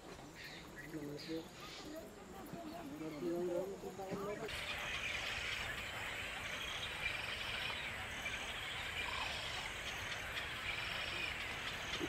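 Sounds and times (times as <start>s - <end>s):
chorus of small calling animals: 0.0s - 12.0s.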